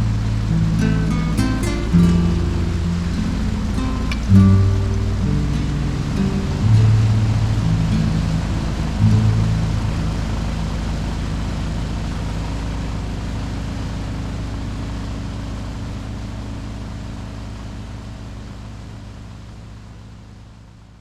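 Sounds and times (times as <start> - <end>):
boat motor running: 0.0 - 18.2.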